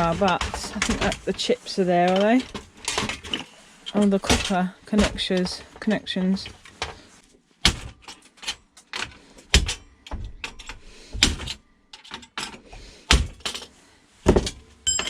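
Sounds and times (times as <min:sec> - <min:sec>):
plastic parts clicking and knocking: 0:00.0 - 0:07.0, 0:07.6 - 0:15.0.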